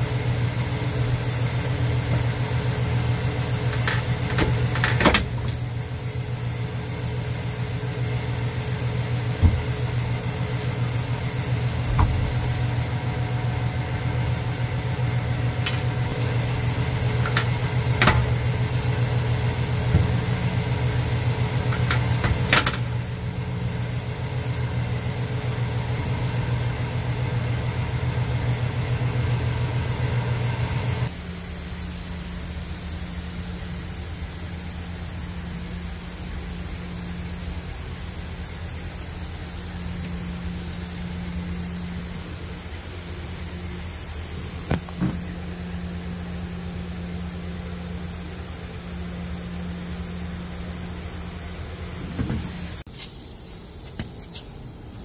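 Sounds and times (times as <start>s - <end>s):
low machine hum: 0.0s - 53.8s.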